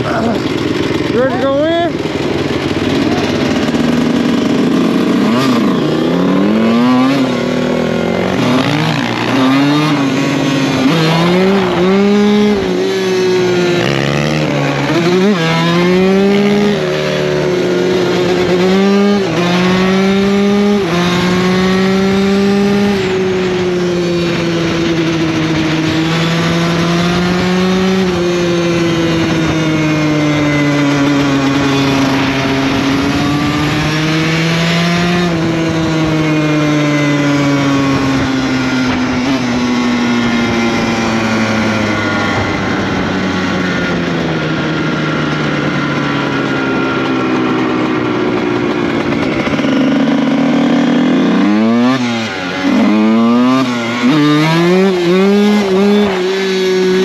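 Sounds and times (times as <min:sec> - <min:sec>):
dirt bike engine accelerating: 0:00.0 - 0:57.0.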